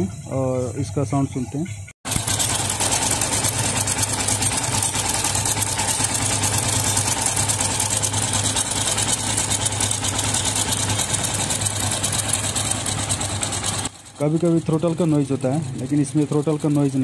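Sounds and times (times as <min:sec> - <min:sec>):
motorcycle engine idling: 0:00.0 - 0:17.0
metallic cam chain ticking: 0:01.6 - 0:17.0.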